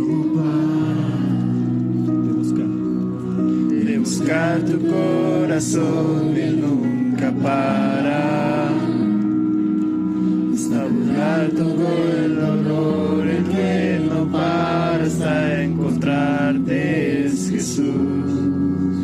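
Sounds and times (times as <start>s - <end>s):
group singing worship chorus: 0.0s - 2.3s, 3.4s - 19.0s
guitar accompaniment: 0.0s - 19.0s.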